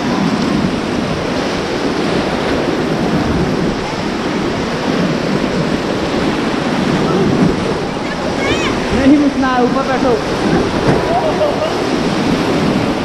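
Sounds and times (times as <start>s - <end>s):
whitewater rapids rushing: 0.0s - 13.0s
wind noise on microphone: 0.0s - 13.0s.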